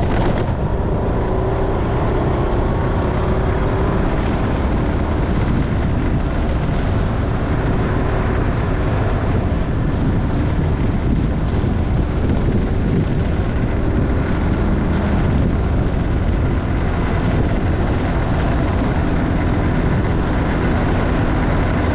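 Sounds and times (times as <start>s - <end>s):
motorcycle engine running: 0.0s - 21.9s
wind and road noise: 0.0s - 21.9s.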